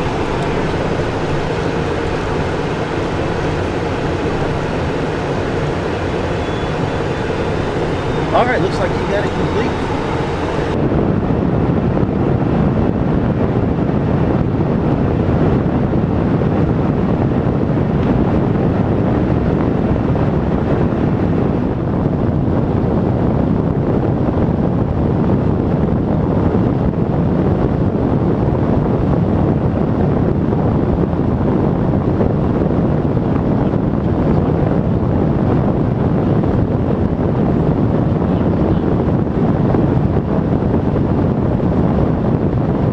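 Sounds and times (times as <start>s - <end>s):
jet cockpit airflow and engine noise: 0.0s - 42.9s.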